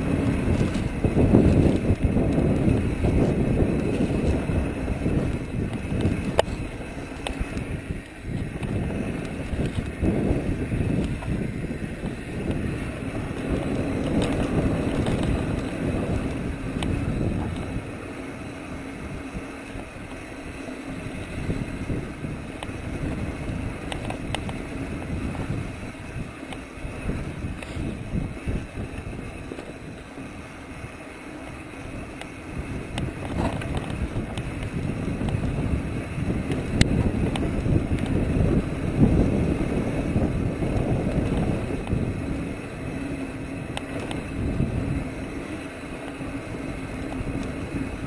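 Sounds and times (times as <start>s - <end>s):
bike clicks and rattles: 0.0s - 48.0s
tyres rumbling on dirt: 0.0s - 48.0s
wind buffeting microphone: 0.0s - 48.0s.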